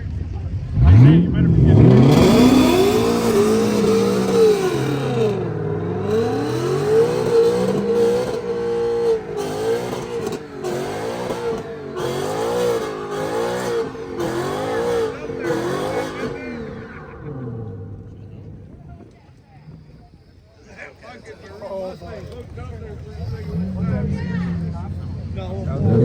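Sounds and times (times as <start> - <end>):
car engine revving hard: 0.6 - 18.8, 22.1 - 26.0.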